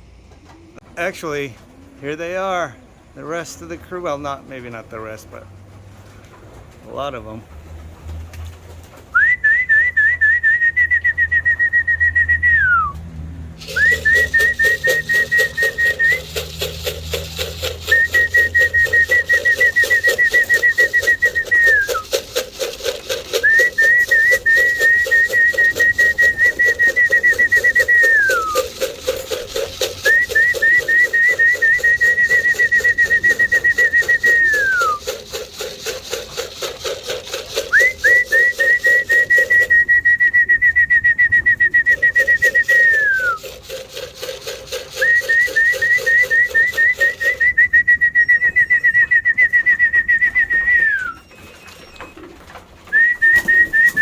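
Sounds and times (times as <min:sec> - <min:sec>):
trilled whistling: 0:09.2 - 0:13.0, 0:13.6 - 0:54.0.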